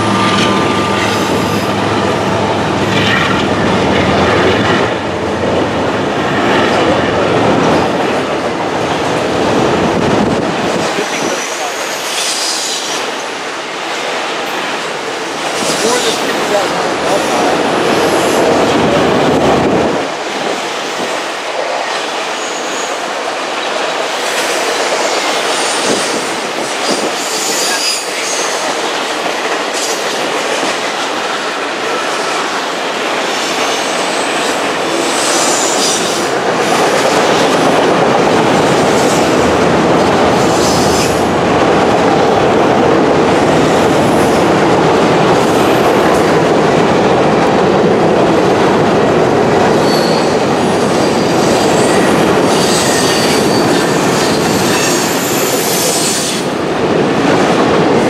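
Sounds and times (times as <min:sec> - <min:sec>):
freight cars rumbling on rails: 0:00.0 - 0:58.0.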